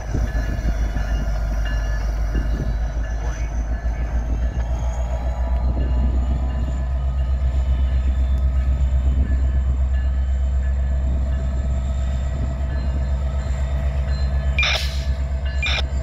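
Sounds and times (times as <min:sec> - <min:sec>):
diesel locomotive idling: 0:00.0 - 0:16.0.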